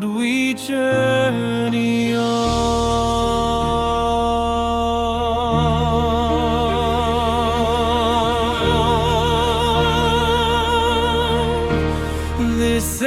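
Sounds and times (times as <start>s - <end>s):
singer holding long note: 0.0s - 13.0s.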